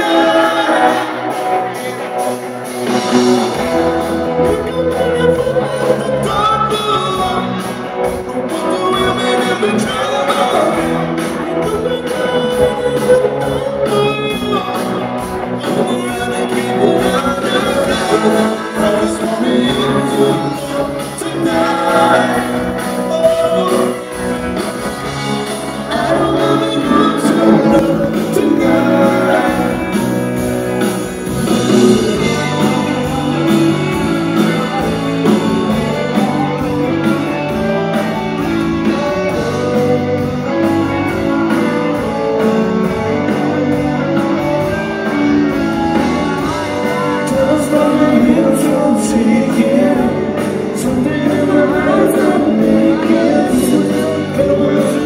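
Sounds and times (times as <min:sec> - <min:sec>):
person singing: 0:00.0 - 0:55.0
rock band playing live: 0:00.0 - 0:55.0
steady drum beat: 0:00.0 - 0:55.0.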